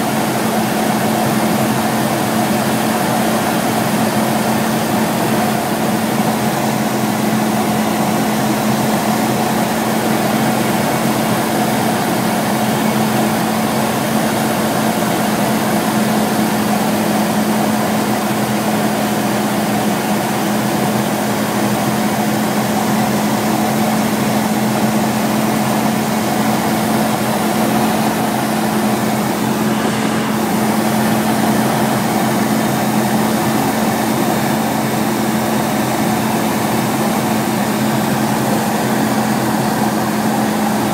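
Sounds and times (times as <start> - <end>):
aircraft engine droning in cabin: 0.0 - 40.9.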